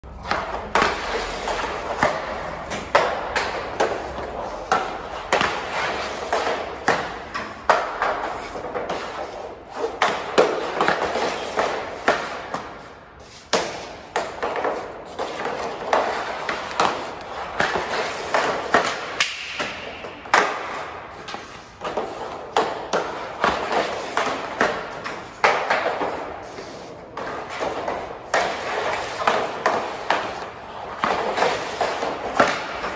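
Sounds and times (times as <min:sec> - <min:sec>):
hockey shots clacking: 0:00.1 - 0:32.9.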